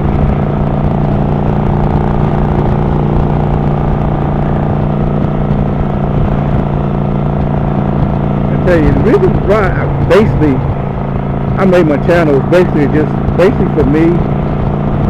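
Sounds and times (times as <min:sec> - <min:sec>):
motorcycle engine cruising: 0:00.0 - 0:15.0
wind rush: 0:00.0 - 0:15.0.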